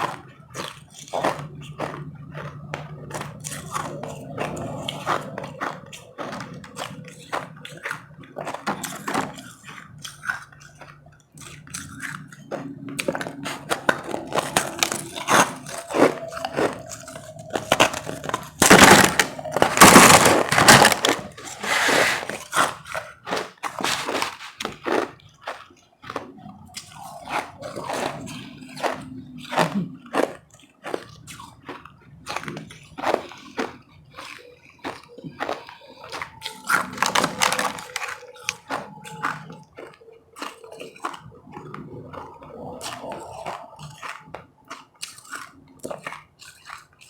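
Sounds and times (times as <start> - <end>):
crunching and chewing ice: 0.0 - 47.0.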